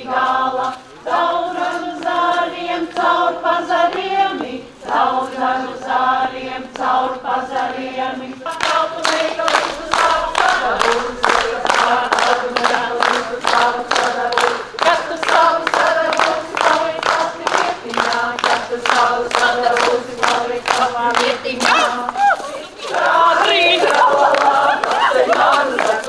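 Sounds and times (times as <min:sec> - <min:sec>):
group singing folk song: 0:00.0 - 0:26.0
rhythmic hand clapping: 0:00.0 - 0:26.0.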